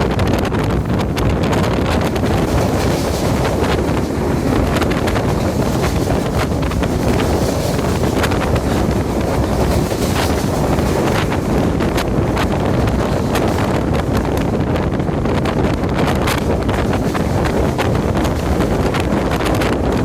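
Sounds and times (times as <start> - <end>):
train clicks: 0.0 - 20.0
train rumbling: 0.0 - 20.0
wind buffeting microphone: 0.0 - 20.0.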